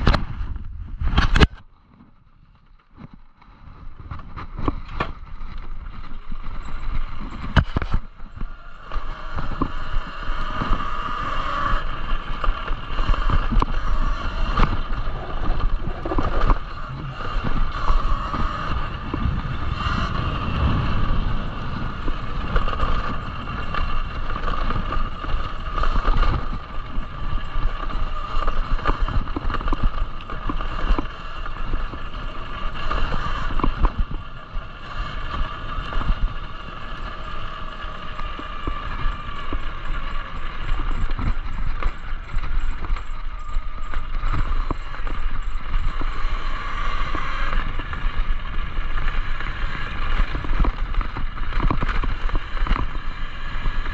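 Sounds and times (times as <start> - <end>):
wind rumble on microphone: 0.0 - 53.9
electric motor whine: 5.0 - 53.9.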